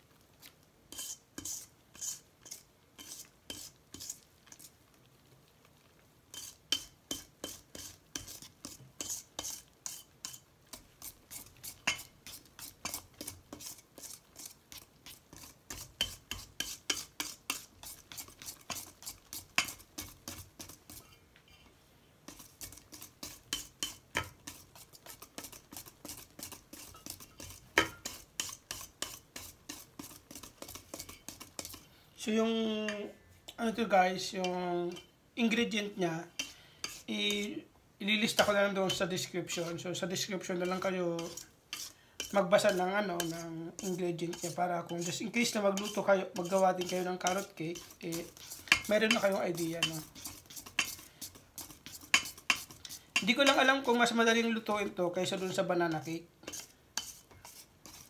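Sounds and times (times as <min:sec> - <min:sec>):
whisk beating in metal bowl: 0:00.9 - 0:04.7, 0:06.3 - 0:21.2, 0:22.3 - 0:31.9, 0:36.4 - 0:37.1, 0:38.3 - 0:54.2, 0:54.9 - 0:58.0.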